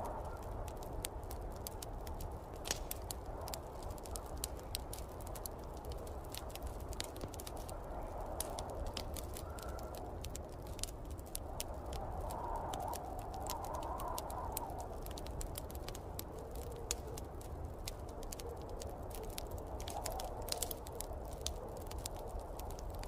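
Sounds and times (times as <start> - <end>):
low rumble of wind: 0.0 - 23.0
wood fire crackling and popping: 0.0 - 23.0.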